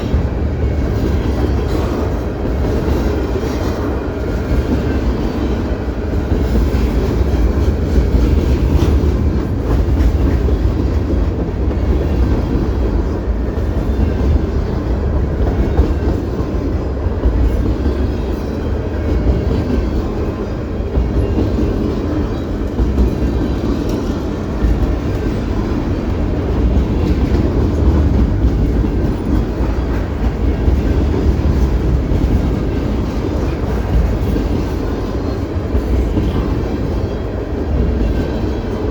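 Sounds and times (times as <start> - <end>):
train cars rolling on track: 0.0 - 38.9.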